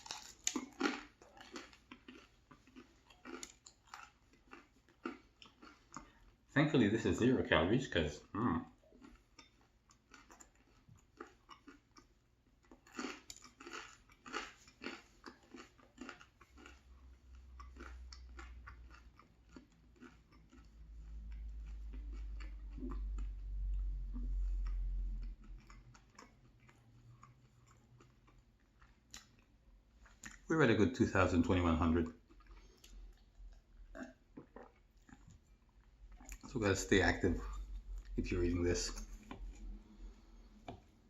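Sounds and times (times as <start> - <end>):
food chewing and crunching: 0.0 - 30.5, 31.2 - 41.0.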